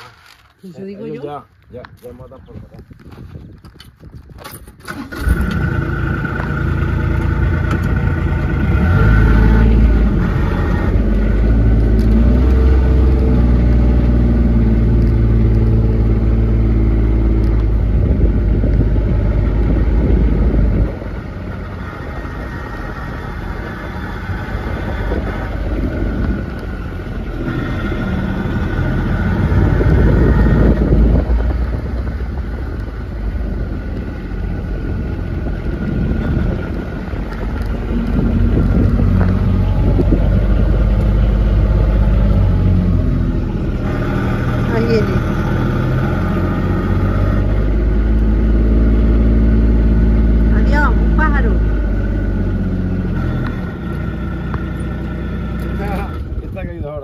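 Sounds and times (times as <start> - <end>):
vehicle engine running: 4.9 - 57.0.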